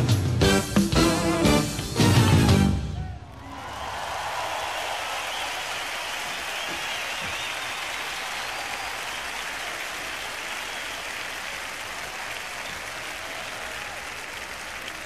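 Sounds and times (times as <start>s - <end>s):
crowd applauding and cheering: 2.0s - 15.0s.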